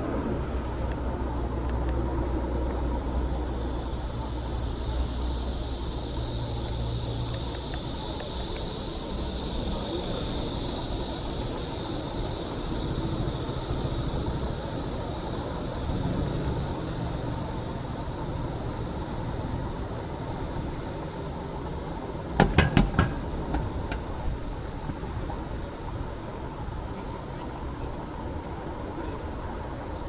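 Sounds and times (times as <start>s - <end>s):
low rumble of traffic: 0.0s - 30.0s
wind hiss: 0.0s - 30.0s.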